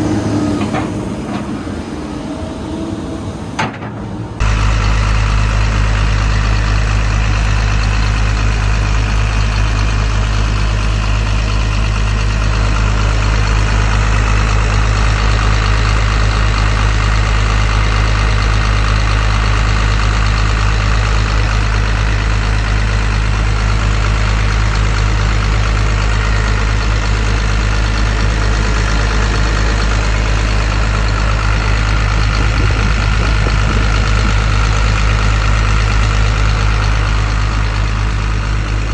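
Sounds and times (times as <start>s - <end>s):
excavator diesel engine rumbling: 0.0s - 38.9s.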